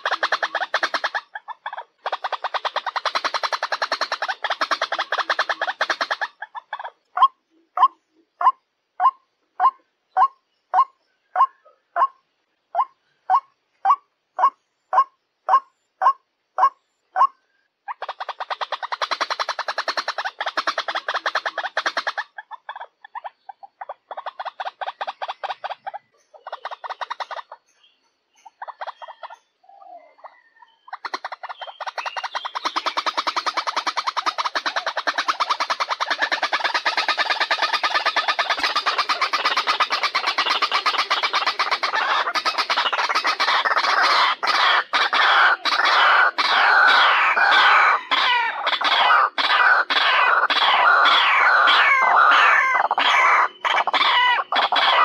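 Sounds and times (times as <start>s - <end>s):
bird pulsed calls: 0.0s - 55.0s.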